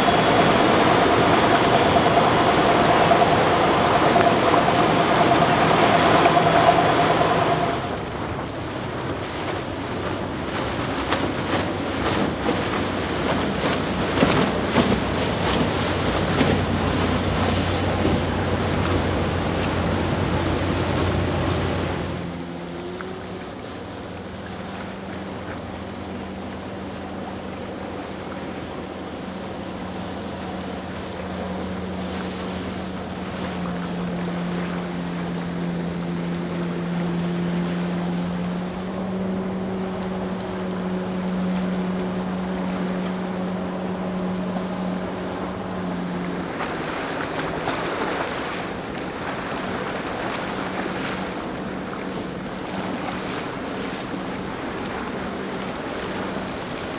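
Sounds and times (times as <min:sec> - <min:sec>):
motorboat engine hum: 0:00.0 - 0:56.9
water splashing: 0:00.0 - 0:56.9.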